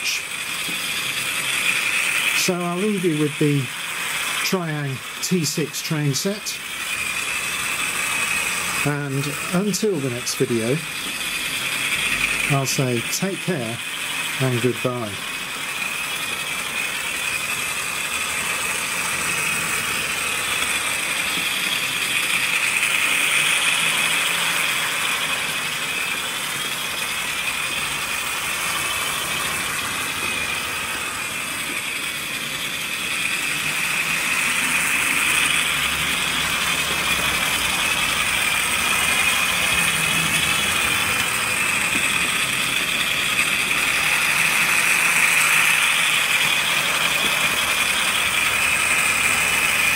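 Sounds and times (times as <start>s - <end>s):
model train whirring and rattling: 0.0s - 49.9s.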